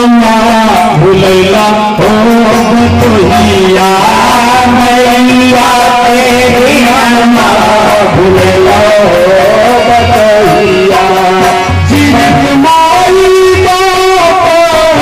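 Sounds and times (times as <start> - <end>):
melody with long held notes: 0.1 - 15.0.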